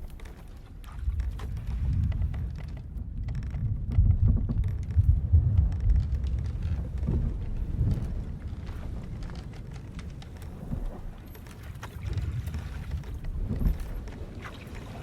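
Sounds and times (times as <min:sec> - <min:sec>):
ship timbers creaking: 0:00.0 - 0:14.5
sea and wind against hull: 0:00.0 - 0:15.0.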